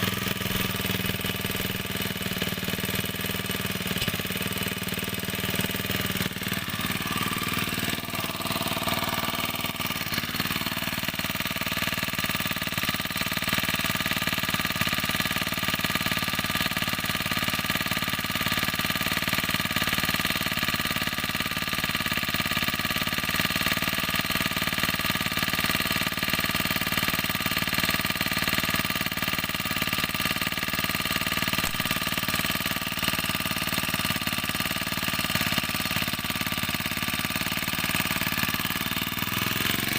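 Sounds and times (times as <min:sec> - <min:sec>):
small grass-cutter engine running: 0:00.0 - 0:39.9.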